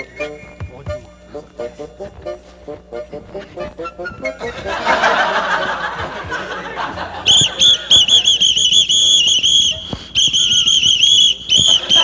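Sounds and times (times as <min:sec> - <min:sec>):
pea whistle trilling blasts: 0:00.0 - 0:12.0.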